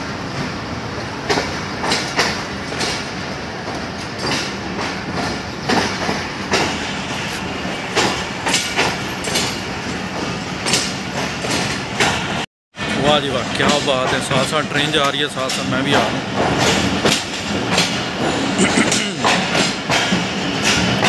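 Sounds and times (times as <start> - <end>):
train coaches rumbling past: 0.0 - 21.0
wheels clacking over rail joints: 1.1 - 21.0.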